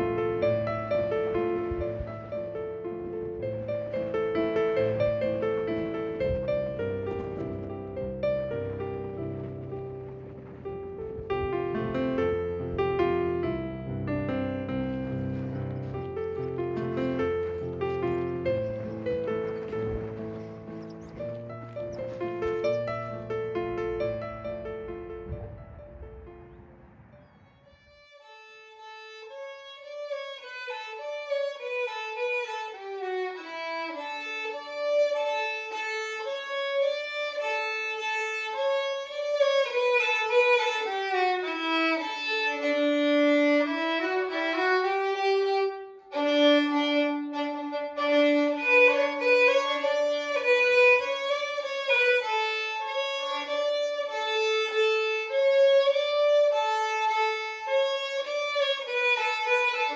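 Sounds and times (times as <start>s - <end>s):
violin melody: 0.0s - 26.4s, 27.0s - 59.9s.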